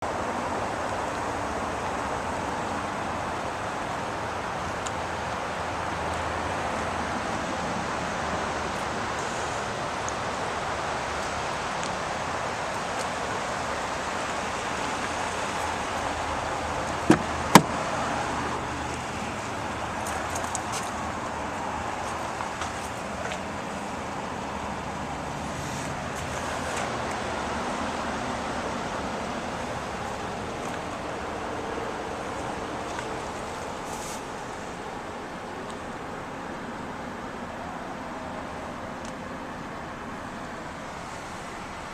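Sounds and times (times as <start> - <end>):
road traffic hum: 0.0 - 41.9.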